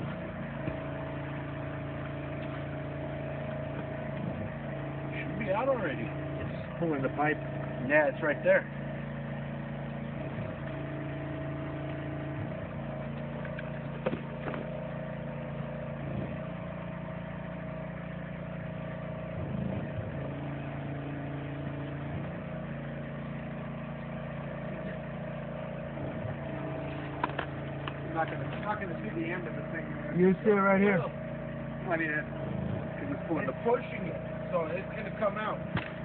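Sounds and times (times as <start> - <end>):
pipe-pulling machine engine running: 0.0 - 36.0.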